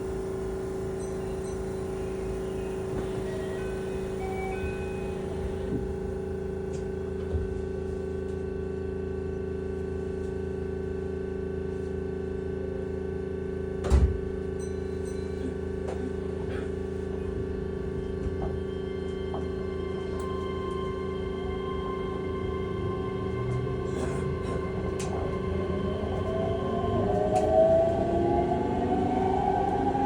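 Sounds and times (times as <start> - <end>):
electric train hum: 0.0 - 30.0.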